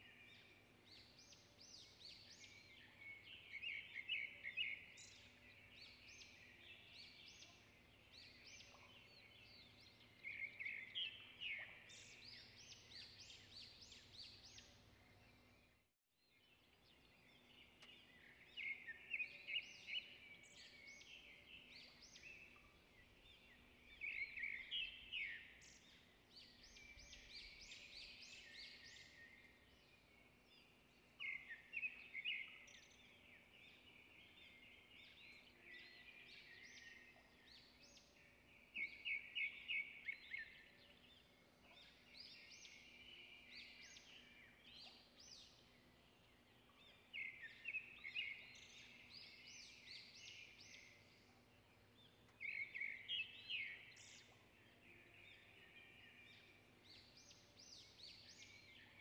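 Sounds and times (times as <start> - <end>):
faint birdsong: 0.0 - 59.0.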